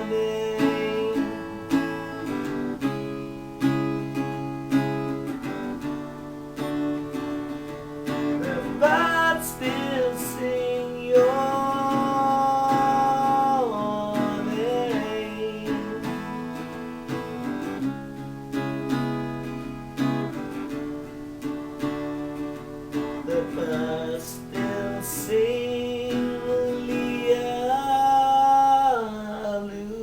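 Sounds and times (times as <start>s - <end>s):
strummed acoustic guitar: 0.0s - 30.0s.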